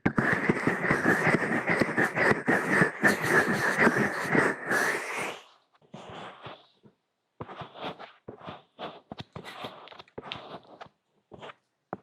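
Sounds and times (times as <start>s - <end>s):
crackly rubbing on microphone: 0.2s - 11.7s.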